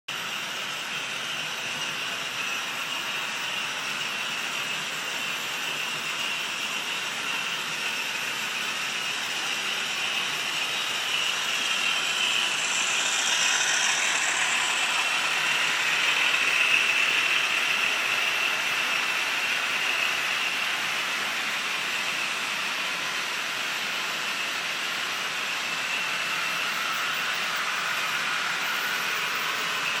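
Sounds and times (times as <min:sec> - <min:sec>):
model train running on track: 0:00.1 - 0:30.0.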